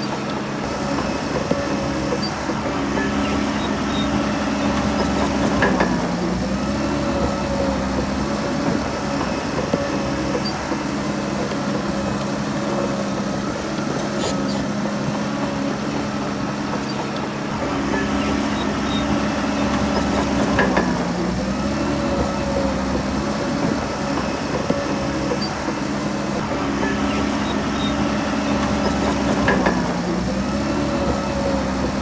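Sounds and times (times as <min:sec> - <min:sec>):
diesel engine of heavy machine: 0:00.0 - 0:32.0.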